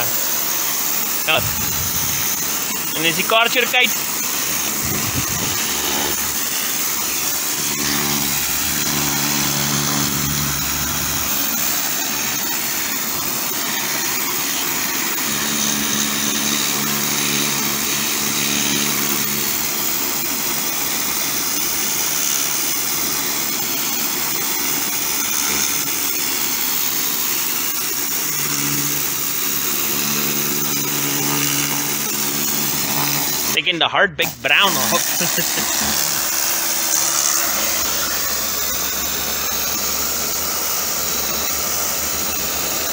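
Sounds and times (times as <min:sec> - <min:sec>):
pressure washer jet hissing: 0:00.0 - 0:33.6, 0:34.2 - 0:42.9
pressure washer motor drone: 0:00.0 - 0:42.9.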